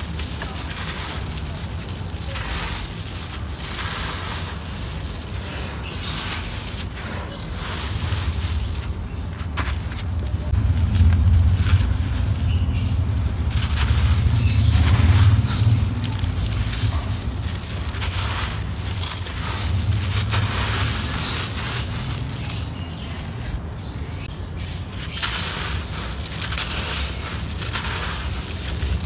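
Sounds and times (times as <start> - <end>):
grit trickling through fingers: 0.0 - 29.0
hands crushing gritty lumps: 0.0 - 29.0.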